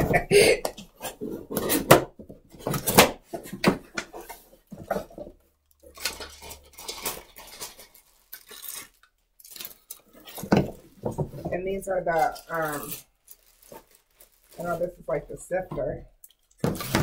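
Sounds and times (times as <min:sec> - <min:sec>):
packaging rustling and scraping: 0:00.8 - 0:16.0, 0:16.6 - 0:17.0.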